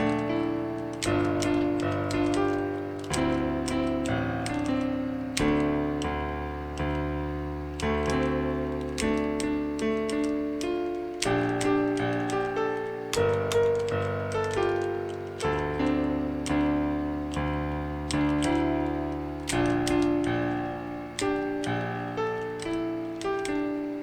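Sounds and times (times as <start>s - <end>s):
computer keys clattering: 0.0s - 24.0s
piano notes and chords: 0.0s - 24.0s.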